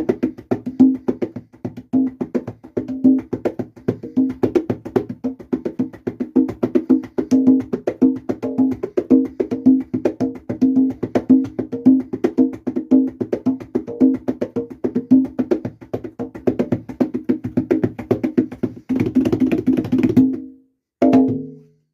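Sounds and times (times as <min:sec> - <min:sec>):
congas playing rhythm: 0:00.0 - 0:21.7.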